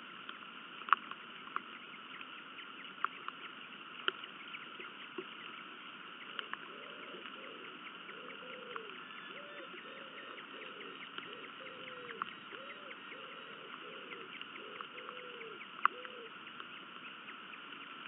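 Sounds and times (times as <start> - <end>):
raindrops pattering on microphone: 0.0 - 9.8, 10.4 - 18.0
rain hiss: 0.0 - 18.0.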